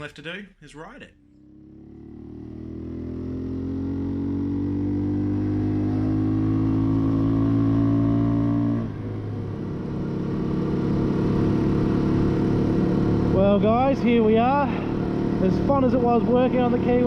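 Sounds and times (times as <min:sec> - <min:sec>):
motorcycle engine accelerating: 0:01.2 - 0:17.0.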